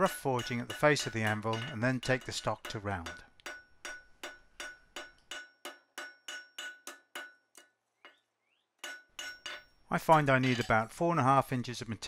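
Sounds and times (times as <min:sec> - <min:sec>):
hammer ringing on anvil: 0:00.0 - 0:08.2, 0:08.8 - 0:10.9.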